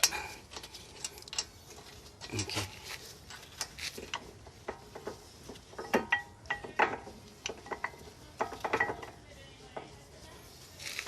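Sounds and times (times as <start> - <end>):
metal brake parts clinking: 0.0 - 9.2.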